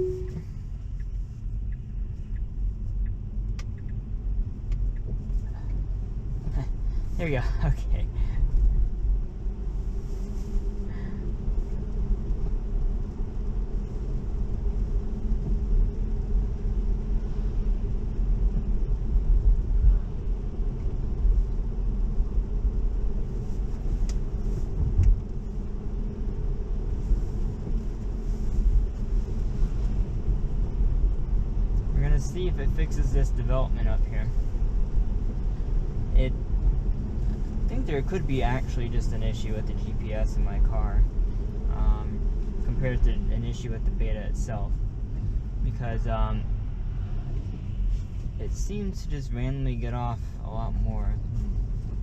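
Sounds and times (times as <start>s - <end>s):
road and tyre rumble: 0.0s - 52.0s.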